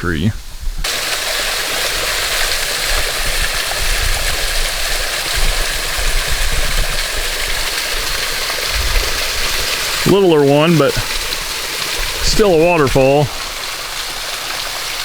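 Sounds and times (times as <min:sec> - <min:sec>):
small waterfall splashing: 0:00.8 - 0:15.0.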